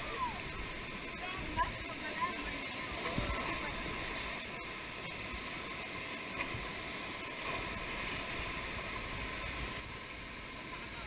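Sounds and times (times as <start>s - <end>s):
rapids rushing water: 0.0s - 11.0s.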